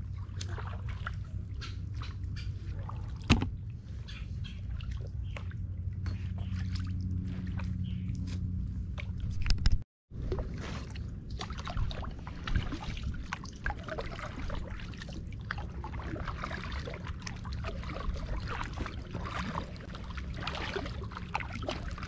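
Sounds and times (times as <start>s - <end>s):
water dripping and splashing: 0.0s - 3.6s, 4.7s - 8.3s, 10.3s - 22.0s
kayak paddles dipping in water: 0.0s - 9.5s, 10.2s - 22.0s
low steady rumble: 0.0s - 22.0s.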